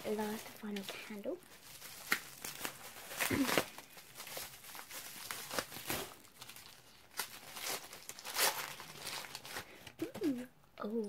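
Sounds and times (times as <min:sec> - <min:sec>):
packaging crinkling and tearing: 0:00.0 - 0:10.4.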